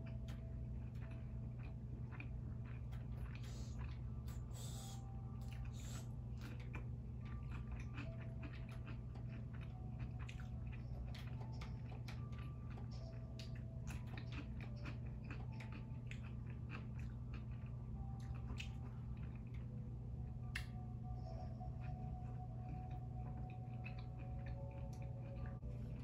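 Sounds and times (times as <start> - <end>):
chewing with crunching clicks: 0.0 - 26.0
steady low hum: 0.0 - 26.0.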